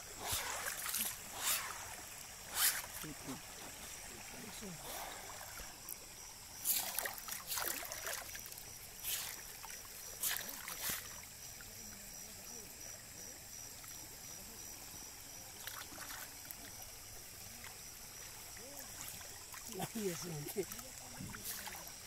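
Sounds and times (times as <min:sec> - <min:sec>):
shallow water splashing: 0:00.0 - 0:11.7, 0:14.9 - 0:22.0.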